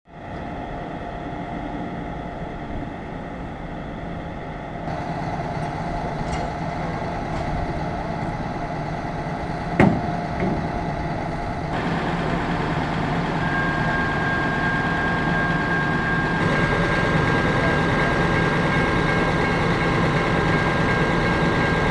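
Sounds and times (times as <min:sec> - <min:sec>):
diesel truck engine idling: 0:00.1 - 0:21.9
steady high whine: 0:00.1 - 0:21.9.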